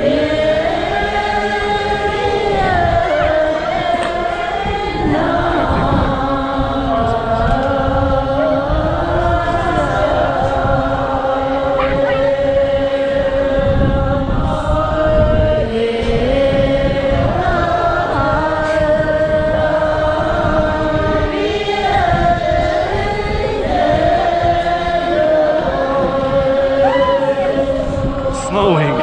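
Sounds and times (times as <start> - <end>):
group of voices chanting: 0.0 - 29.0.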